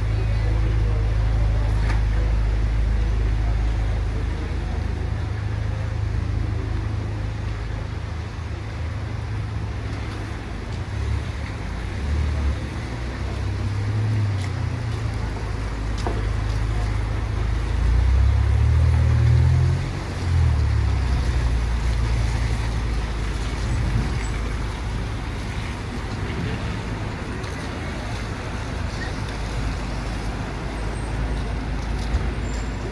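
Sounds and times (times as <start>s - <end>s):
street traffic rumbling: 0.0s - 32.9s.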